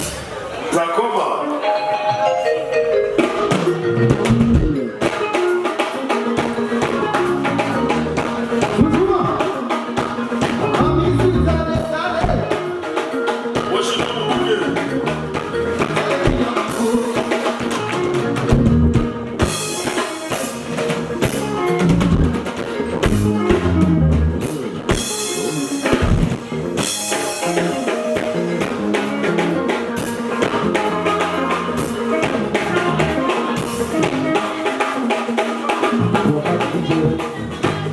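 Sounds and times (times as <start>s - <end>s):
band music: 0.0s - 37.9s.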